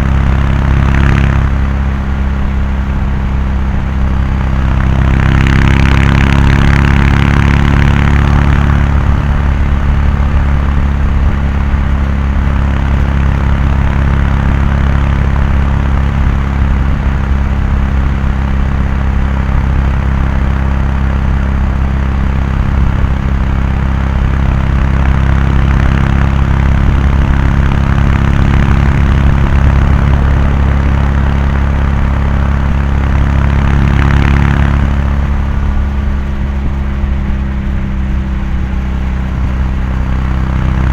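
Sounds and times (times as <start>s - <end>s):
motorcycle exhaust cruising: 0.0s - 40.9s.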